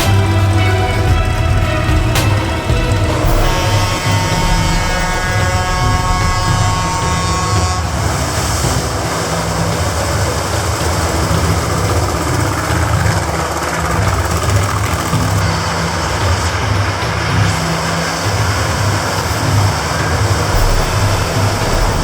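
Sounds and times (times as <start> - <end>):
dense rushing noise: 0.0 - 22.0
steady chord of pitched tones: 0.0 - 22.0
truck engine running loud: 0.0 - 22.0.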